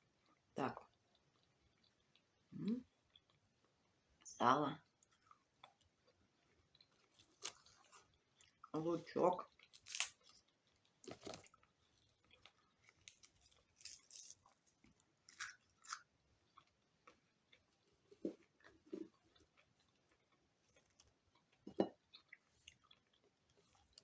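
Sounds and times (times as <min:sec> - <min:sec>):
person chewing crunchy food: 0:00.0 - 0:03.9, 0:04.9 - 0:08.7, 0:09.4 - 0:24.0.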